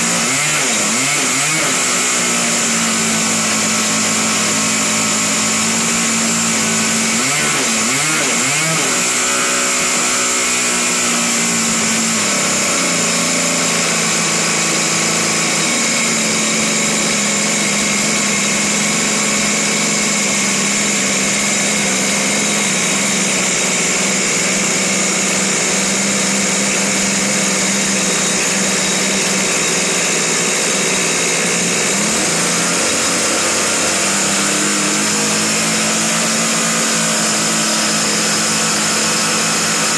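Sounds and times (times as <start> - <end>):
two-stroke model airplane engine running: 0.0 - 39.9.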